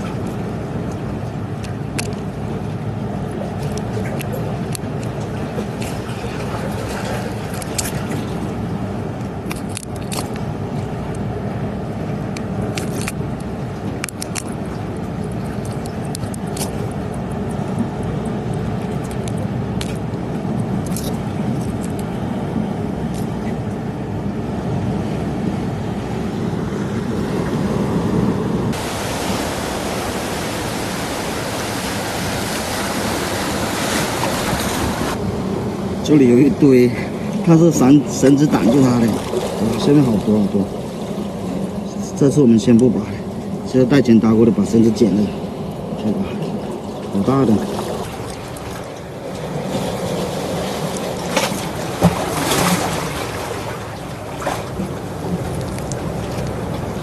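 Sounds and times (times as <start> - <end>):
waves breaking: 0.0 - 57.0
wind and surf rumble: 0.0 - 57.0.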